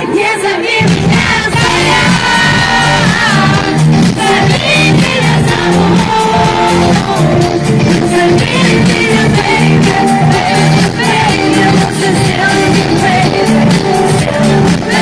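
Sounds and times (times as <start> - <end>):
person singing: 0.0 - 15.0
pulsing pop beat: 0.1 - 15.0.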